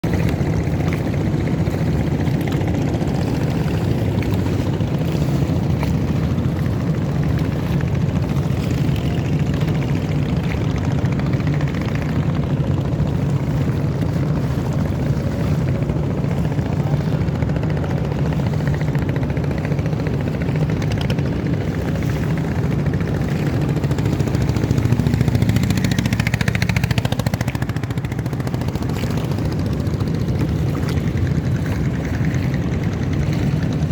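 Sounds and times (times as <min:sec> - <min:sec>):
boat engine rumbling: 0:00.0 - 0:33.9.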